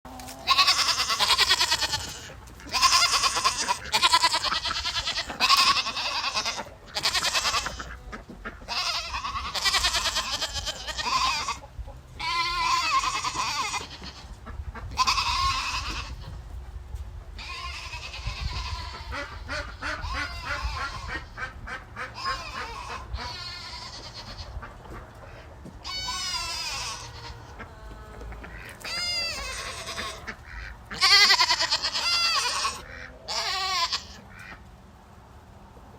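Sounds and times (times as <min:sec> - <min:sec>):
goats bleating: 0:00.2 - 0:14.4, 0:15.0 - 0:16.3, 0:17.4 - 0:21.4, 0:22.0 - 0:24.7, 0:25.8 - 0:34.5.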